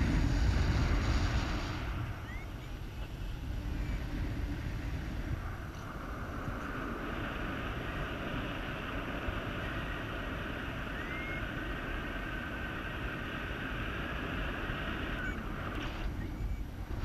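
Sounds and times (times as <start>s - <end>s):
rushing wind: 0.0s - 17.0s
wind buffeting on microphone: 0.0s - 17.0s.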